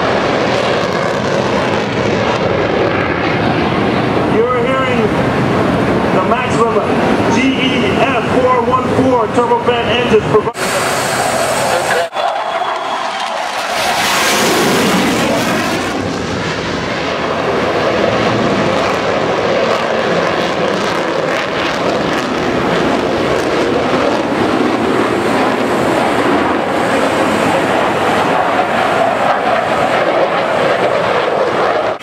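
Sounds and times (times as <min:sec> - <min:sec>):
gas-turbine engine rushing: 0:00.0 - 0:32.0.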